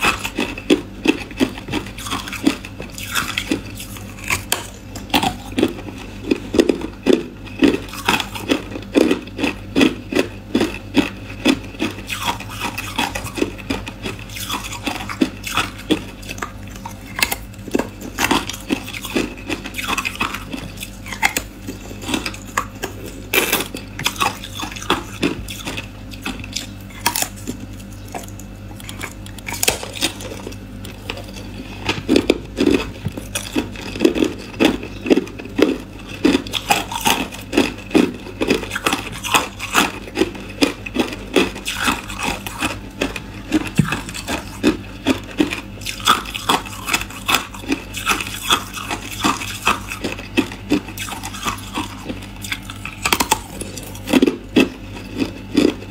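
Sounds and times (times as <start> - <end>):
ice crunching between teeth: 0.0 - 55.9.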